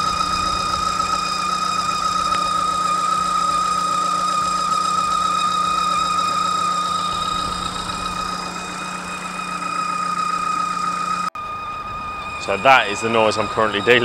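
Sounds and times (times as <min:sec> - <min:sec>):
car engine idling: 0:00.0 - 0:14.0
high-pitched belt squeal: 0:00.0 - 0:14.0.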